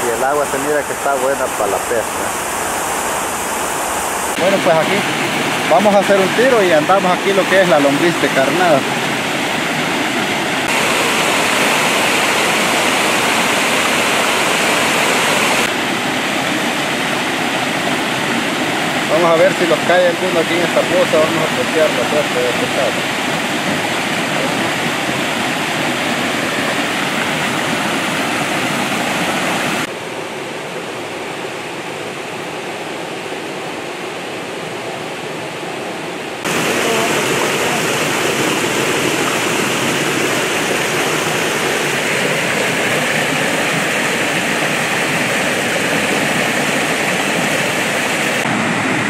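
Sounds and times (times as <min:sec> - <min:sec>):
water rushing over rocks: 0:00.0 - 0:30.2, 0:35.4 - 0:49.0.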